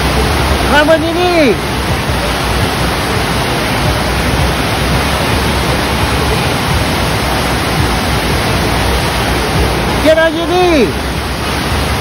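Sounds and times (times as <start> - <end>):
rushing pumped water: 0.0 - 12.0.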